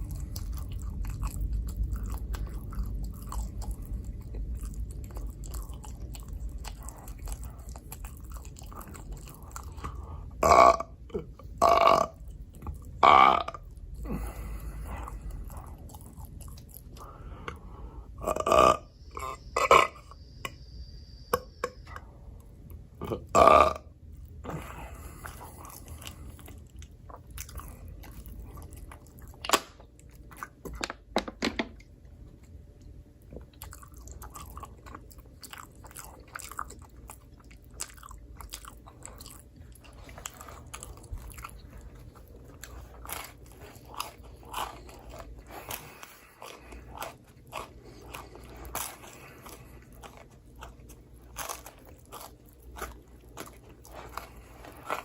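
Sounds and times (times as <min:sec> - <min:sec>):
chewing and biting pizza: 0:00.0 - 0:17.8, 0:24.0 - 0:30.8, 0:31.9 - 0:55.0.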